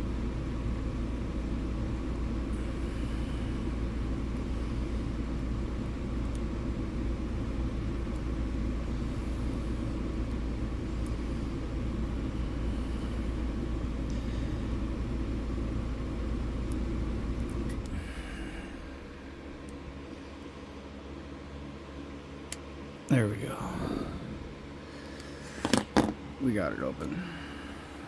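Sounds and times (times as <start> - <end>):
steady low rumble: 0.0 - 25.4.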